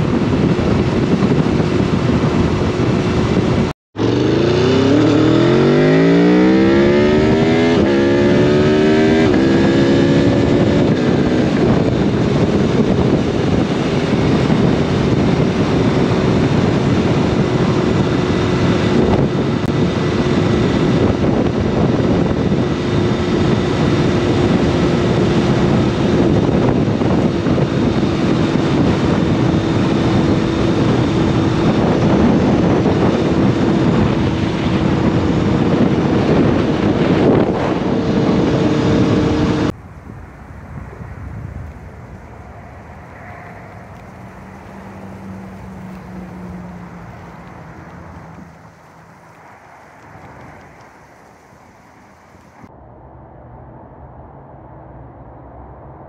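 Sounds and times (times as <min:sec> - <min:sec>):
motorcycle engine revving: 0:00.0 - 0:39.8, 0:40.7 - 0:52.7
wind rush: 0:00.0 - 0:56.0.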